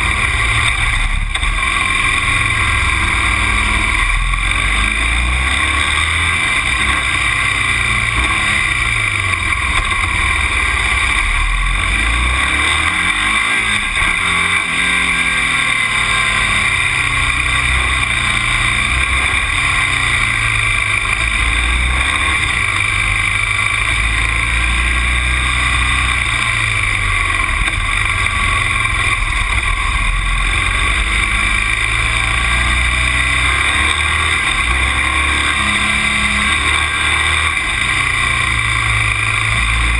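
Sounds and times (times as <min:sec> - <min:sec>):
road and wind noise: 0:00.0 - 0:39.9
vehicle engine running: 0:00.0 - 0:39.9.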